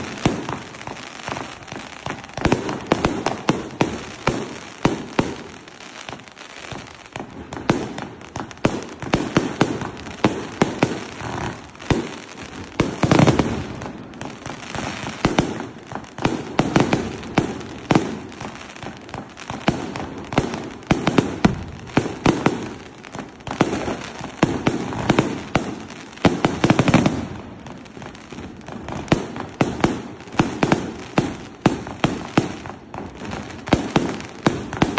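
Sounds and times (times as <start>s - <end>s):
fireworks popping and crackling: 0.0s - 34.9s.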